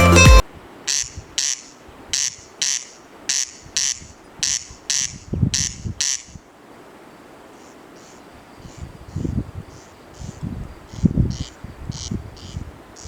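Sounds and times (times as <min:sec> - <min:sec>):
corncrake rasping call: 0:00.9 - 0:06.4, 0:07.5 - 0:13.0.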